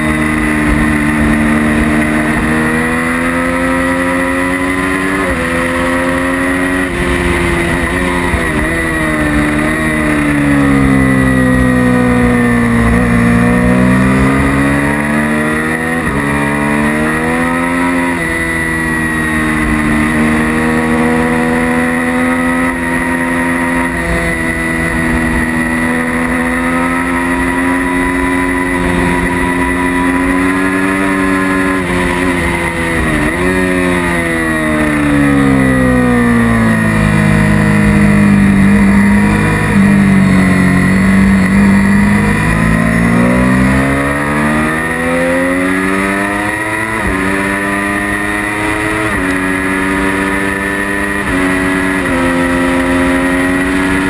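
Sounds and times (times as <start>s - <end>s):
motorcycle engine at speed: 0.0s - 54.0s.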